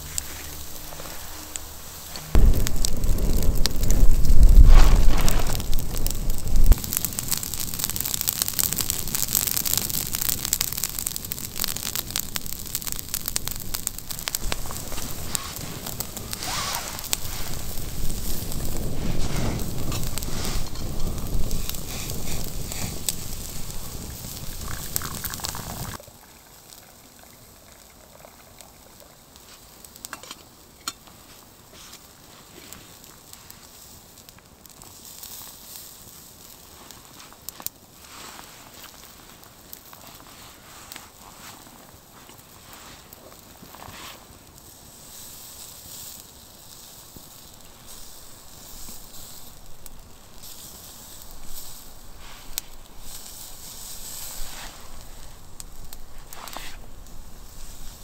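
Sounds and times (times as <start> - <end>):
wood fire crackling and sizzling: 0.0 - 58.0.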